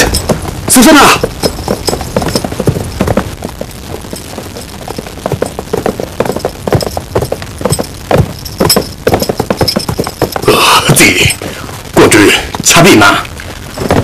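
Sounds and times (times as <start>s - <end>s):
horse galloping hoofbeats: 0.0s - 11.4s, 13.7s - 14.0s.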